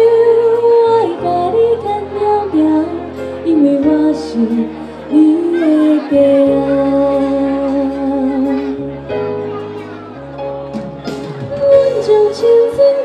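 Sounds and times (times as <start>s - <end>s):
woman singing into a microphone: 0.0s - 9.1s, 11.2s - 13.0s
live band playing: 0.0s - 13.0s.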